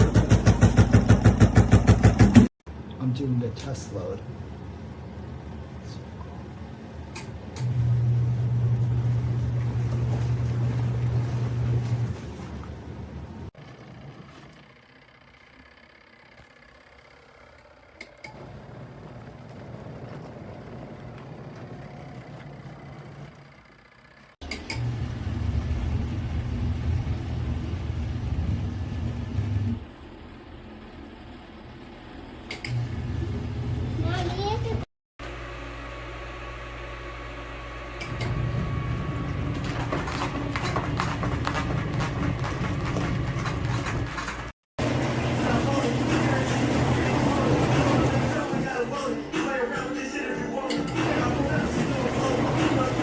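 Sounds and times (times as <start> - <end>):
washing machine motor humming: 0.0 - 2.5, 4.3 - 53.0.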